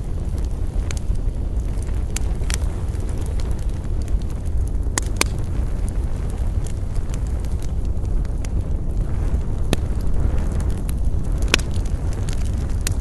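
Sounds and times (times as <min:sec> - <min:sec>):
campfire crackling and popping: 0:00.0 - 0:13.0
low rumble: 0:00.0 - 0:13.0.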